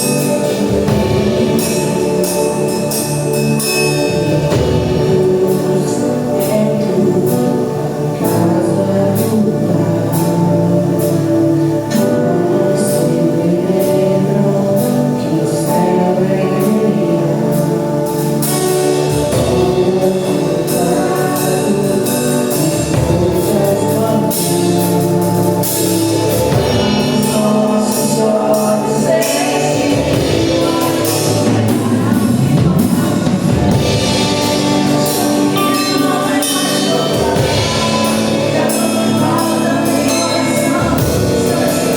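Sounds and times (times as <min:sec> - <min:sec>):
gospel band playing: 0:00.0 - 0:41.9
voices singing together: 0:00.0 - 0:41.9.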